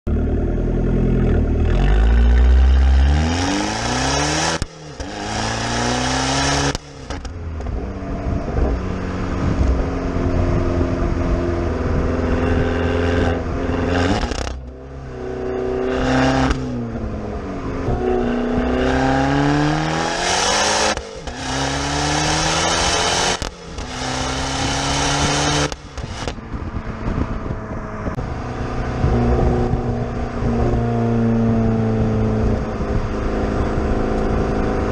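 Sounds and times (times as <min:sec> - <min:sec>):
car engine accelerating hard: 0:00.1 - 0:34.9.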